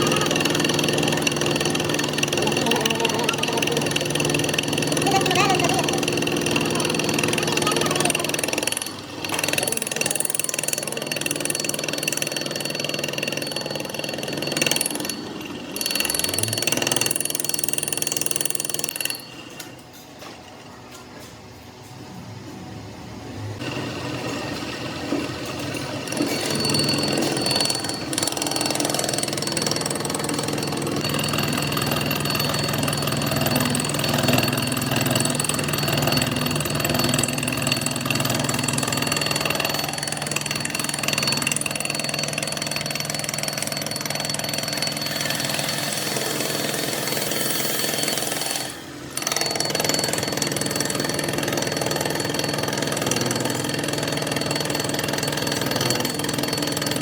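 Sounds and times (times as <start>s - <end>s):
metalworking machine whining: 0.0s - 57.0s.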